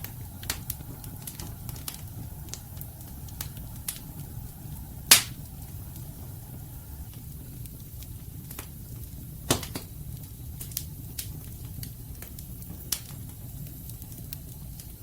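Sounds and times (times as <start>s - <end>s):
fire rumbling in fireplace: 0.0s - 15.0s
logs crackling and popping: 0.0s - 15.0s.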